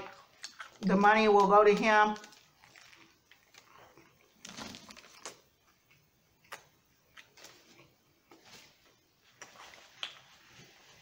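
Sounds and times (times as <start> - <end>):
chewing a toasted sandwich: 0.0 - 0.9, 2.2 - 10.4.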